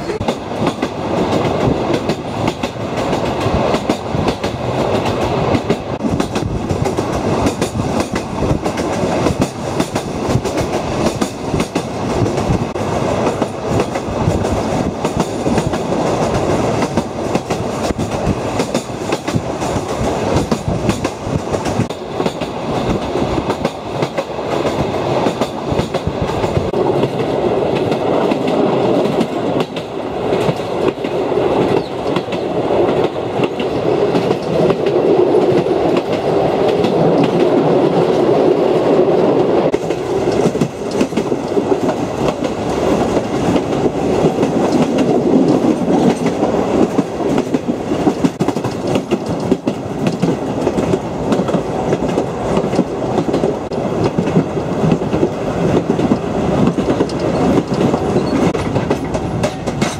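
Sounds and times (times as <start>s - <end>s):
train wheels rumbling and clicking: 0.0s - 59.9s.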